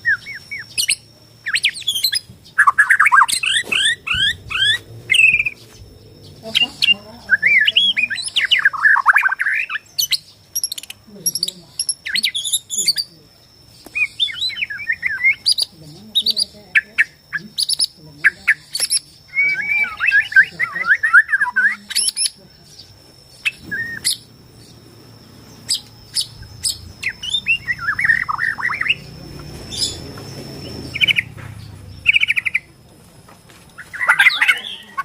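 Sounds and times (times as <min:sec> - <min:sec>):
bird singing: 0:00.0 - 0:35.0.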